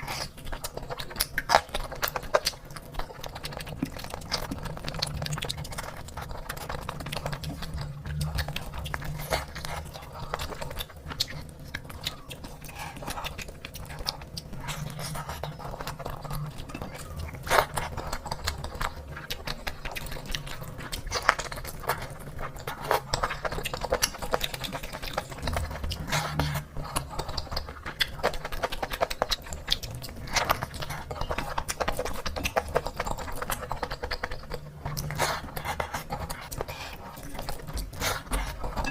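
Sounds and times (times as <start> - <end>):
chewing and mouth smacks: 0.0 - 38.9
low steady hum: 0.0 - 38.9.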